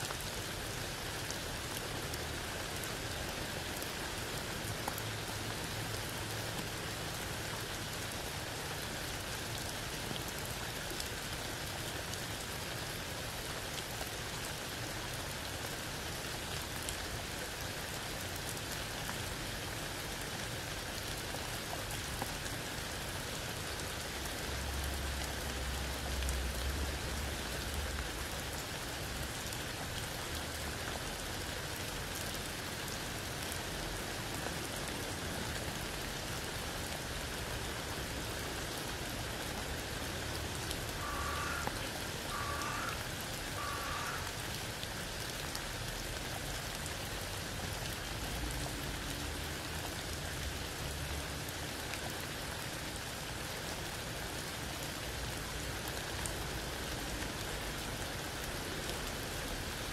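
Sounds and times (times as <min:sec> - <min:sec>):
rain falling through leaves: 0:00.0 - 0:59.9.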